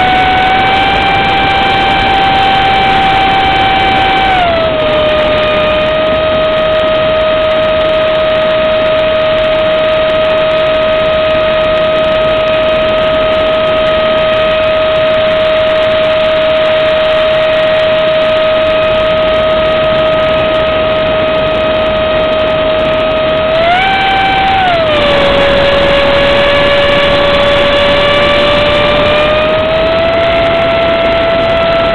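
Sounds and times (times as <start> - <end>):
electric motor and fan whine: 0.0 - 31.9
rush of wind: 0.0 - 31.9.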